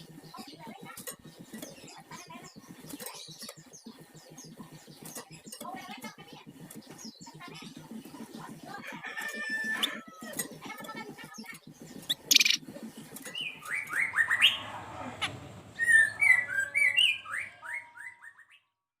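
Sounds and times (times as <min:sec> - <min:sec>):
songbird chirping: 0:00.0 - 0:18.7.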